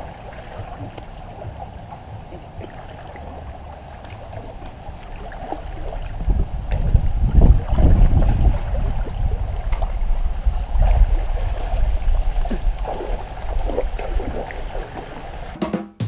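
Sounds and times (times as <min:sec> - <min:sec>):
water sloshing and splashing: 0:00.0 - 0:15.6
wind rumbling on microphone: 0:00.0 - 0:15.6.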